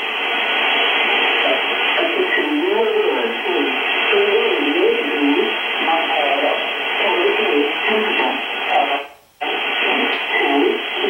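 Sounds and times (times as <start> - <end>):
static hiss: 0.0 - 11.0
voice over radio: 1.4 - 11.0.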